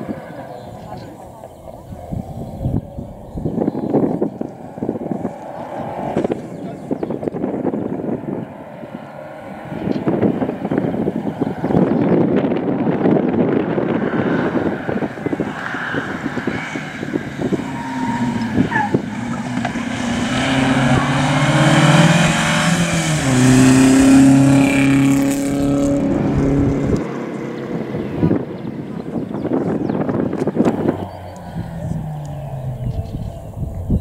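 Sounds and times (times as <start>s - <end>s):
rally car engine revving: 3.3s - 34.0s.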